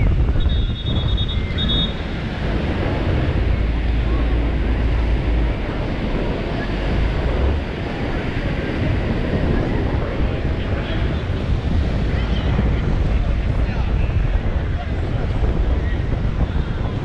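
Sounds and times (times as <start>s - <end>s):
wind buffeting microphone: 0.0s - 17.0s
ocean surf breaking: 1.8s - 16.1s.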